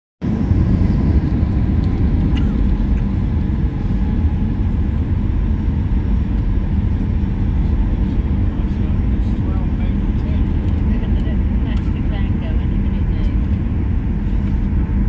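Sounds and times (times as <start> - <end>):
jet engines rumbling in cabin: 0.2 - 15.0.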